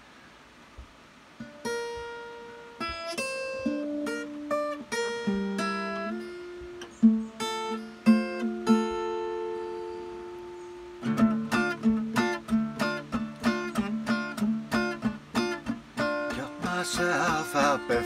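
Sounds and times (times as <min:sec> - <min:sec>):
acoustic guitar playing: 0:01.4 - 0:18.0.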